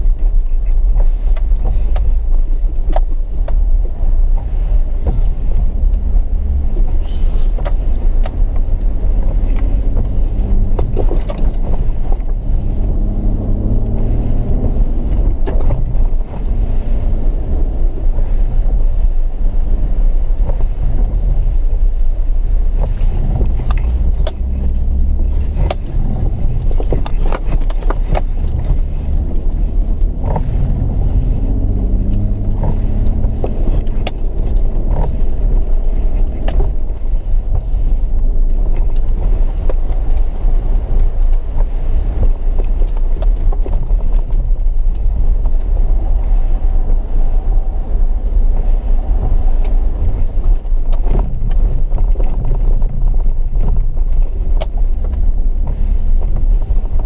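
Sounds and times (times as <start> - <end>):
vehicle engine and tyres rumbling: 0.0 - 57.0
vehicle rattles and knocks: 0.0 - 57.0.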